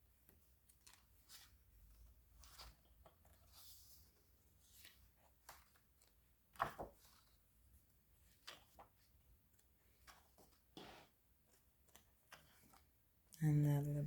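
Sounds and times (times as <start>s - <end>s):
book pages turning: 0.6s - 7.4s, 8.2s - 13.0s.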